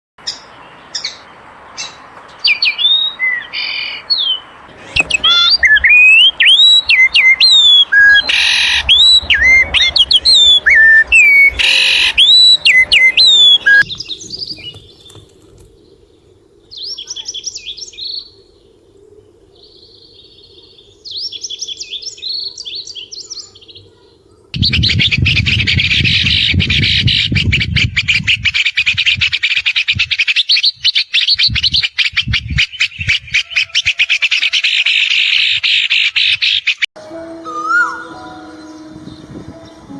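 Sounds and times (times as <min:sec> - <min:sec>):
songbirds singing: 0:00.2 - 0:36.9, 0:37.5 - 0:39.9.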